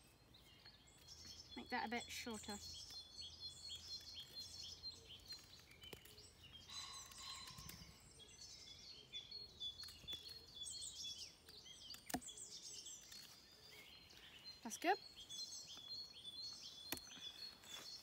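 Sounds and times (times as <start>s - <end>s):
birds chirping and trilling: 0.0s - 18.0s.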